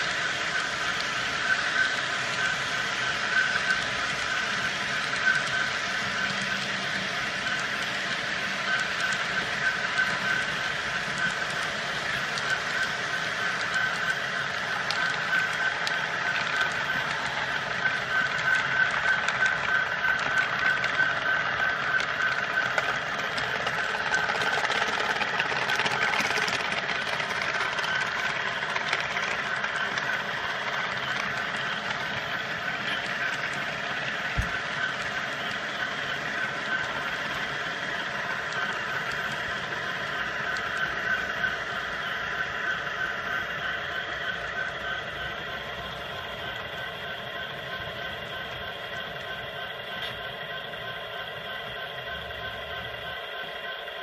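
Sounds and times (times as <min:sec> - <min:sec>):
wheel clicks: 0:00.0 - 0:46.9
faint high whine: 0:00.0 - 0:54.0
model train rolling: 0:00.0 - 0:54.0.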